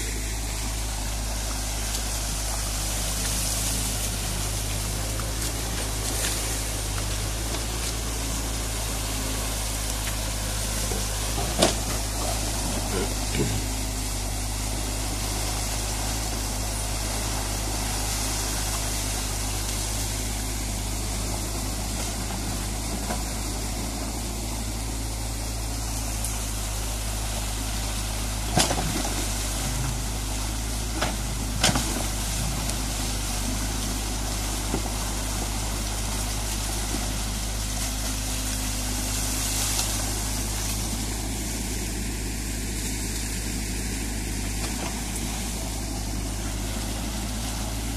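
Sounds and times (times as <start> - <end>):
water rushing through dam: 0.0 - 42.0
excavator diesel engine running: 0.0 - 47.9.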